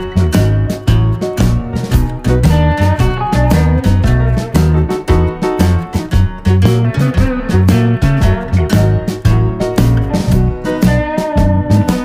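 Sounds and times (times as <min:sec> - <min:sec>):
upbeat guitar music with beat: 0:00.0 - 0:12.0.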